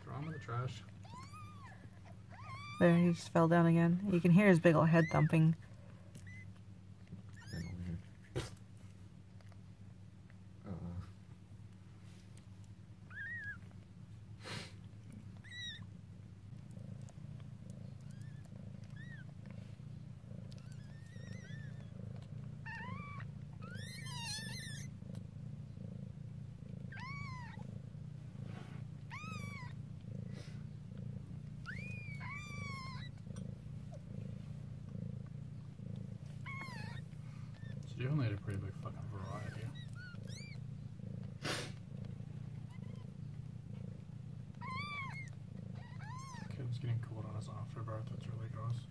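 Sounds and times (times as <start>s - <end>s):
kittens mewing: 0.0s - 9.8s, 12.9s - 48.9s
cat purring: 0.0s - 48.9s.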